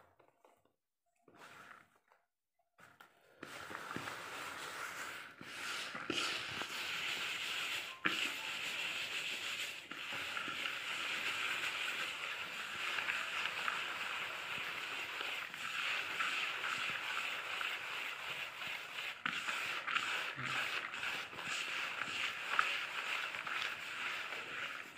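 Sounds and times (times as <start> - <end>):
hand rubbing flour: 1.3 - 2.2, 3.3 - 24.9.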